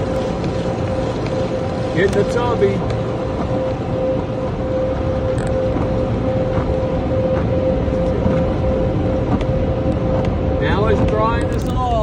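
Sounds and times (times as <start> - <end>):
car wash air blowers: 0.0 - 12.0.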